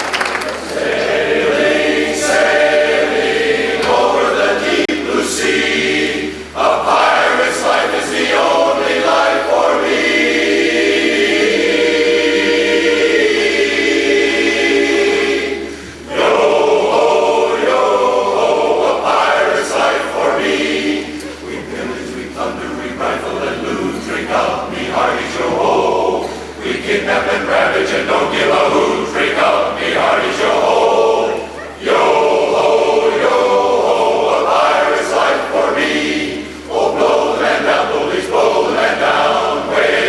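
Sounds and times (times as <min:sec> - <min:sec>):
chorus singing a cappella: 0:00.4 - 0:40.0.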